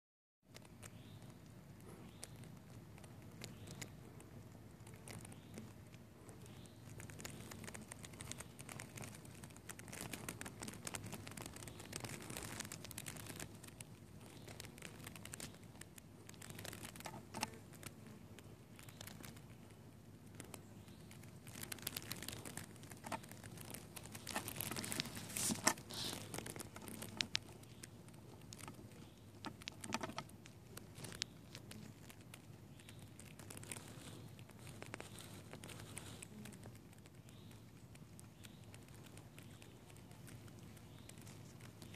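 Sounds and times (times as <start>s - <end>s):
rustling and crinkling handling noise: 0.5s - 41.9s
honeybee colony humming: 1.6s - 41.9s.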